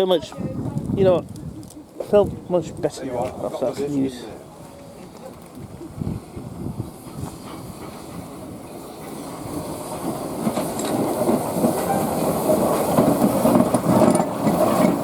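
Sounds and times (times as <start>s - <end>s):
steam locomotive moving slowly: 0.0s - 15.0s.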